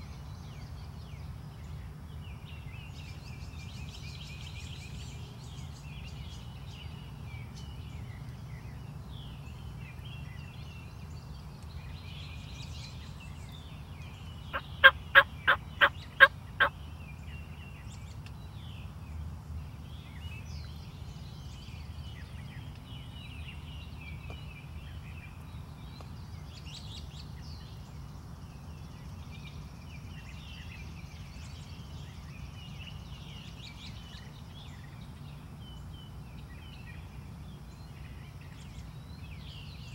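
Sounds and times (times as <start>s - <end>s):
songbirds chirping faintly: 0.0s - 39.9s.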